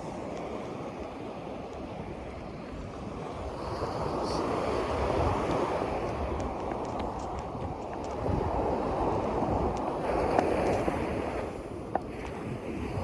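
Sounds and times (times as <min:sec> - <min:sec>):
waves rushing: 0:00.0 - 0:13.0
wind on microphone: 0:00.0 - 0:13.0.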